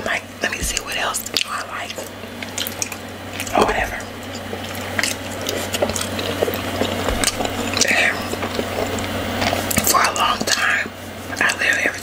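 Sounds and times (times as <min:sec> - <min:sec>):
wet chewing and lip smacks: 0:00.7 - 0:10.7.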